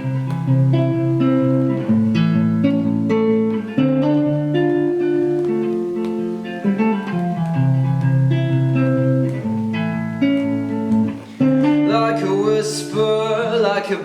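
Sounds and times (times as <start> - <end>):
plucked guitar chords: 0.0 - 14.0.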